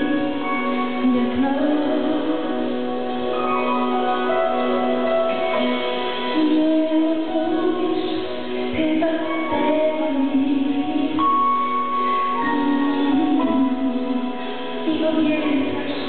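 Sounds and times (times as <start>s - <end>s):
woman singing into a microphone: 0.0s - 5.0s, 5.6s - 16.0s.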